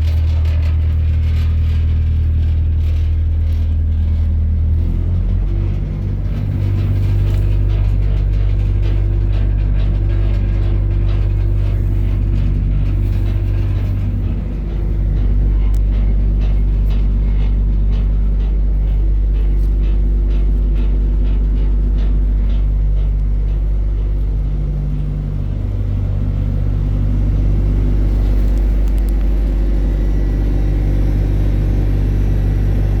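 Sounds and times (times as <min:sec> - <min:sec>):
diesel truck engine idling: 0:00.0 - 0:33.0
light regular ticking: 0:00.6 - 0:33.0.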